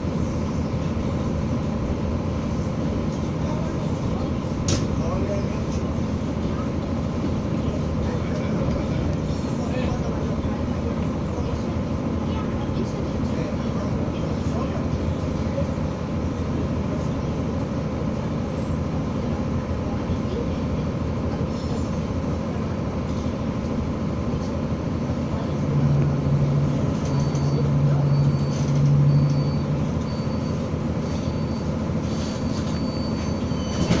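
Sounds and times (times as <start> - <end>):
diesel railcar rumbling on track: 0.0 - 34.0.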